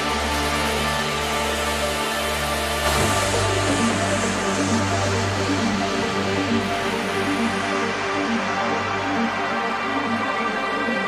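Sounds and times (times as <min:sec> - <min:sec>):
electronic trance music: 0:00.0 - 0:11.0.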